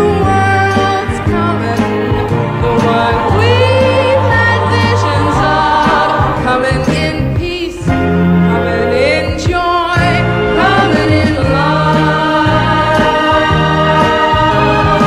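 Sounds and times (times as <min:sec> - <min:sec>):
woman singing: 0:00.0 - 0:14.2
pop band with bass line: 0:00.0 - 0:15.0.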